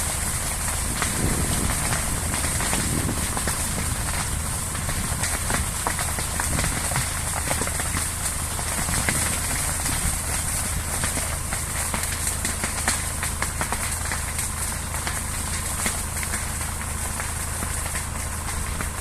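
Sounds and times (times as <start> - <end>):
fire crackling and popping: 0.0 - 19.0
fire low roar: 0.0 - 19.0.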